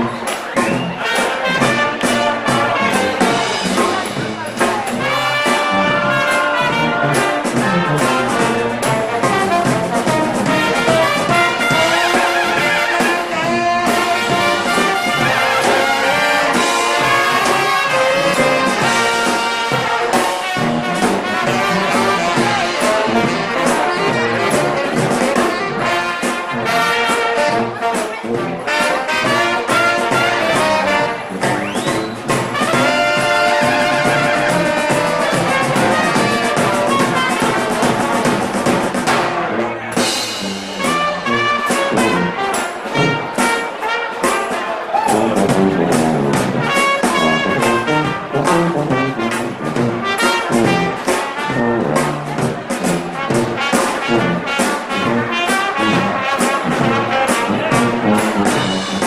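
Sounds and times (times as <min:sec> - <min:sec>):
brass horns melody: 0:00.0 - 0:59.0
drum beat: 0:00.0 - 0:59.0
live band playing: 0:00.0 - 0:59.0.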